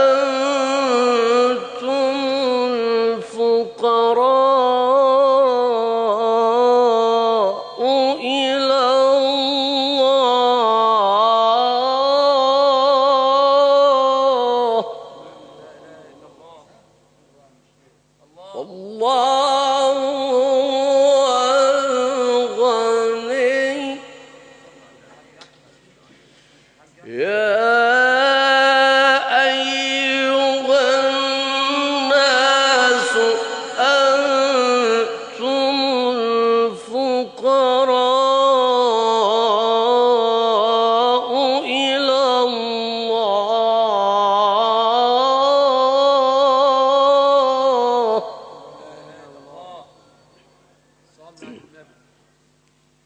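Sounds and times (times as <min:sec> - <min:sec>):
man chanting melodic recitation: 0:00.0 - 0:16.8, 0:18.3 - 0:25.4, 0:27.0 - 0:50.3.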